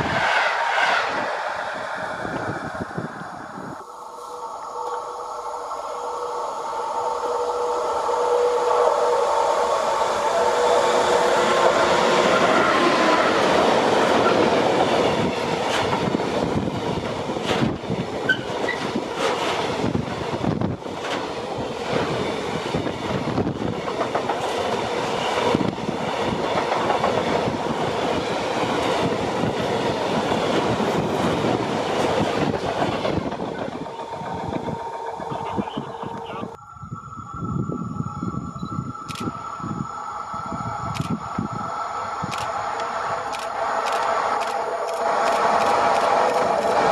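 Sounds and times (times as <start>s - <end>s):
train wheels rumbling: 0.0s - 36.6s, 38.0s - 46.9s
train whine: 0.0s - 46.9s.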